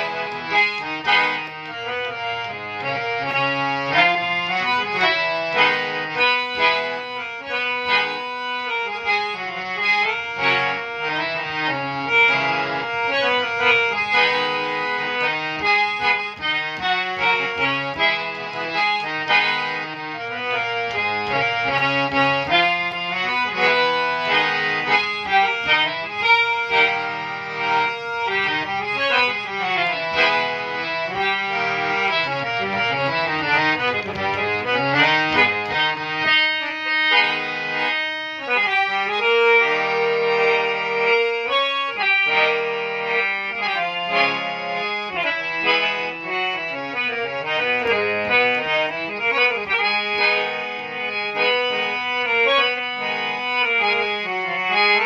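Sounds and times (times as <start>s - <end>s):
harmonium playing a melody: 0.0s - 55.0s.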